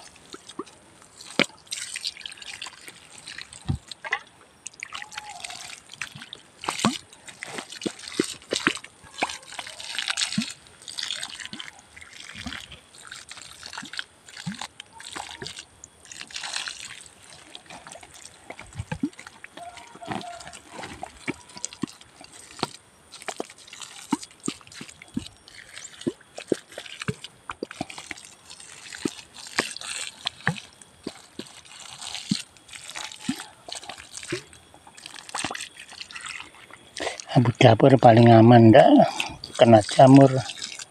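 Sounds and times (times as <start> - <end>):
hose water splashing on soil: 0.0 - 40.9
water drips: 0.0 - 40.9.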